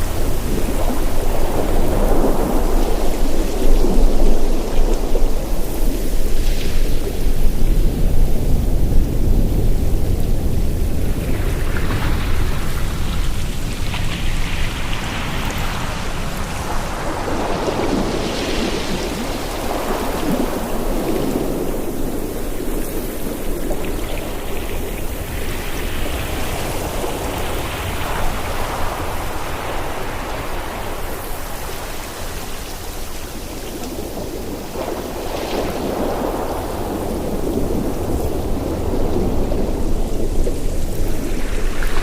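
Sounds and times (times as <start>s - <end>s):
ocean waves breaking: 0.0s - 42.0s
wind: 0.0s - 42.0s.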